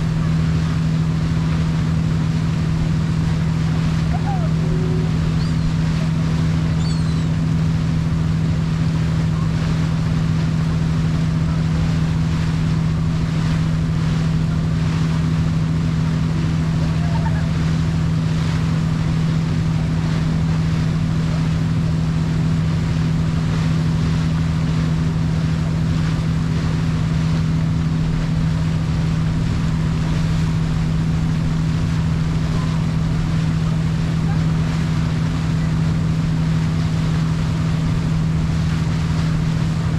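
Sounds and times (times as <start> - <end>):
boat engine droning: 0.0 - 39.9
rushing water: 0.0 - 39.9.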